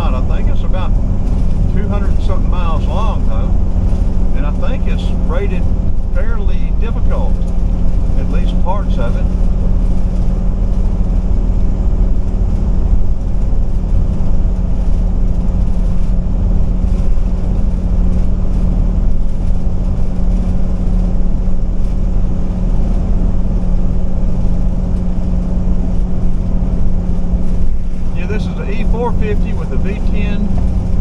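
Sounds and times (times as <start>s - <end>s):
motorhome engine droning: 0.0s - 31.0s
road rumble: 0.0s - 31.0s.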